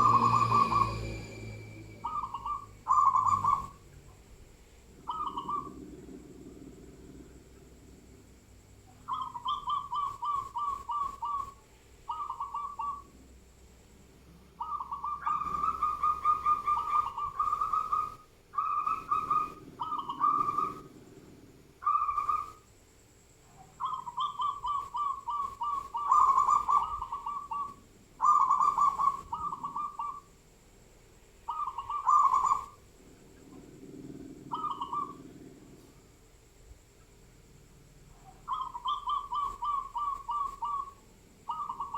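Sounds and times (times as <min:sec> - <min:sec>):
bird singing: 0:00.0 - 0:07.7, 0:08.8 - 0:13.2, 0:14.4 - 0:22.7, 0:23.5 - 0:30.4, 0:31.4 - 0:35.7, 0:38.2 - 0:41.9.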